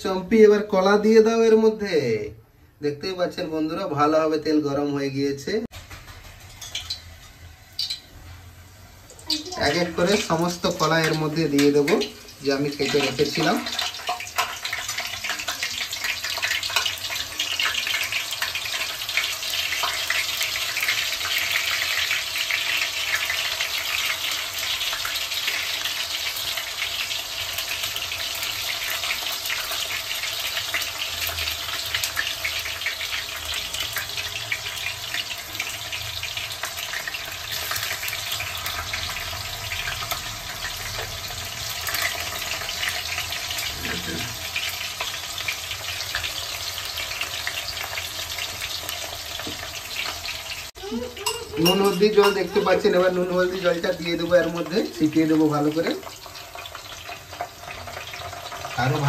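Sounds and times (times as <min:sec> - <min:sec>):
food sizzling in hot oil: 0:03.6 - 0:59.0.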